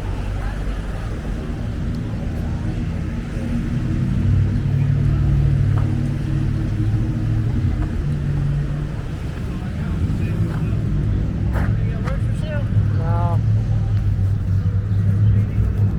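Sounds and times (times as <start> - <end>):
vehicle engine rumble: 0.0 - 15.9.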